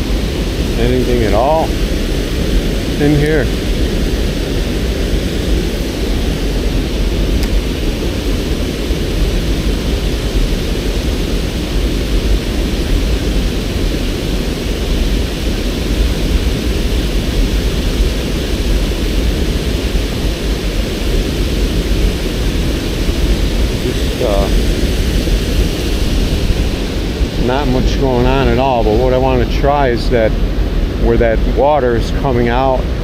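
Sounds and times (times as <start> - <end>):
white water rushing: 0.0 - 33.0.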